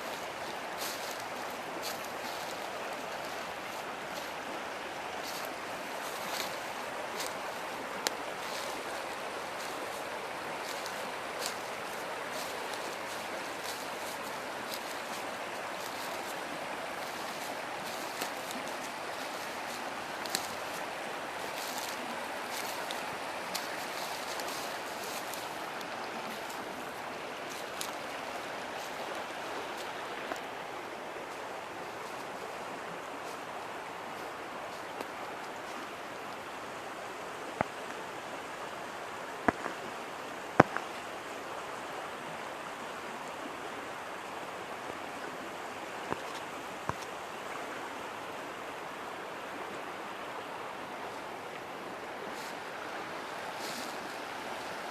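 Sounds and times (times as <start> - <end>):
river water rushing: 0.0 - 54.9.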